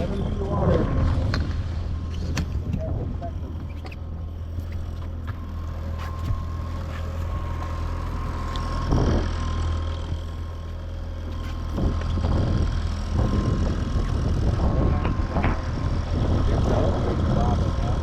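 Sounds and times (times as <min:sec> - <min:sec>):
boat motor whining: 0:00.0 - 0:18.0.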